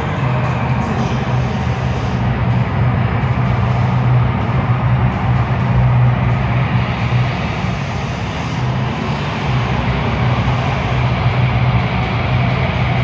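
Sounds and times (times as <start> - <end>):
truck engines running loudly: 0.0 - 13.0.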